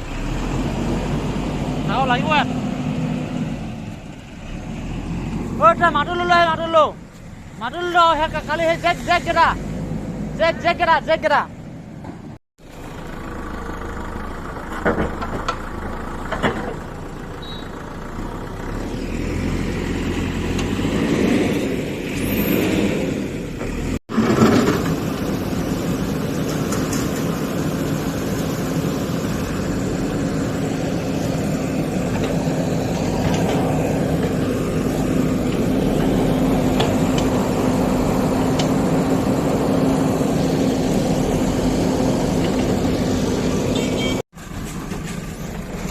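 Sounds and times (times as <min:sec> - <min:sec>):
diesel engine running: 0:00.0 - 0:11.9, 0:12.6 - 0:45.9.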